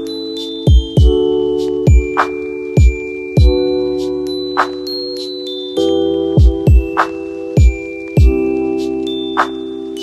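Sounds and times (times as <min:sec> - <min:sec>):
bell-like chime notes: 0:00.0 - 0:10.0
held chords: 0:00.0 - 0:10.0.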